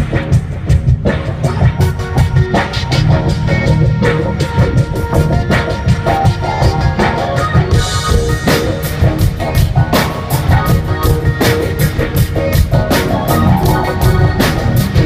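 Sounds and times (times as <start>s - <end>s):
bass: 0.0s - 15.0s
drum kit beat: 0.0s - 15.0s
guitar: 0.0s - 15.0s.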